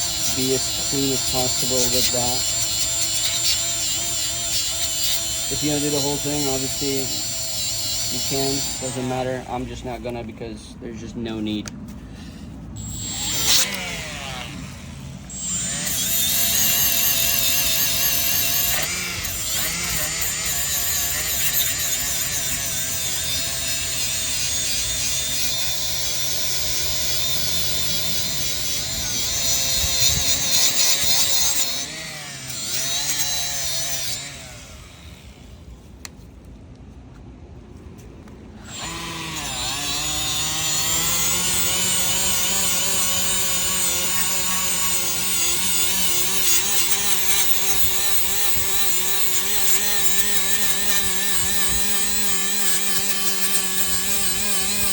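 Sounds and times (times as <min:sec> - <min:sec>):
power tool grinding metal: 0:00.0 - 0:11.4, 0:12.8 - 0:35.4, 0:38.6 - 0:54.9.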